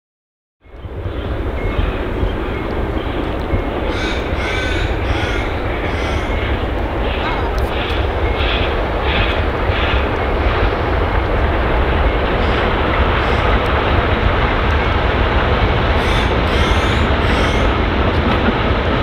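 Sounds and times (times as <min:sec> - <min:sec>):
steam locomotive exhaust roar: 0:00.6 - 0:19.0
heavy low rumble: 0:00.7 - 0:19.0.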